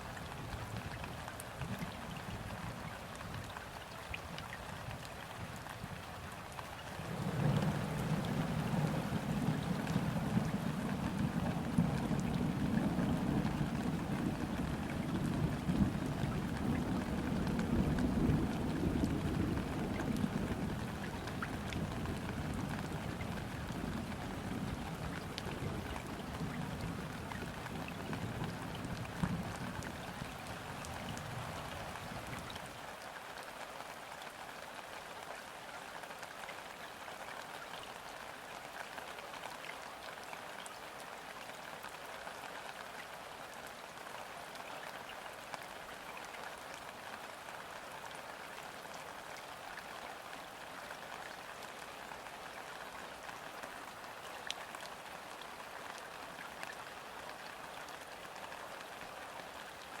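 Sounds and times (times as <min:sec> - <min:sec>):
rain falling on water: 0:00.0 - 1:00.0.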